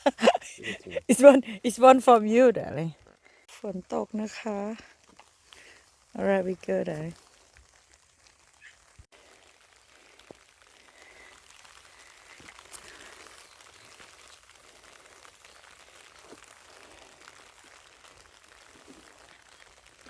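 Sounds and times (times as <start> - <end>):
faint steady rain: 0.0 - 20.0
raindrops ticking: 0.0 - 20.0.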